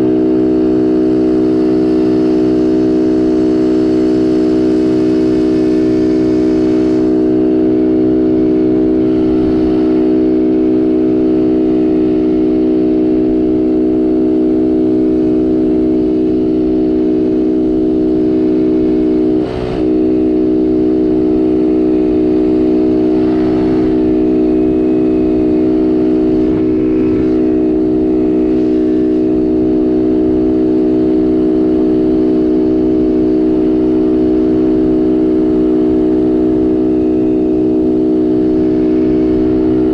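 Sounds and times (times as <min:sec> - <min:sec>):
quad engine running hard: 0:00.0 - 0:39.9.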